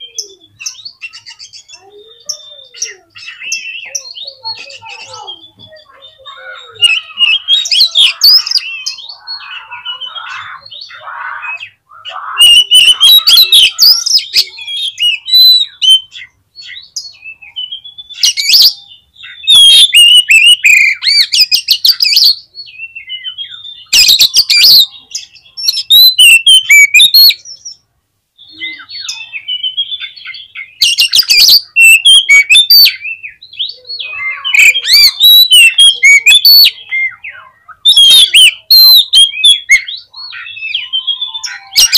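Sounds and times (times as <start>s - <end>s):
bird singing whistled notes: 0.0s - 27.8s, 28.4s - 41.9s.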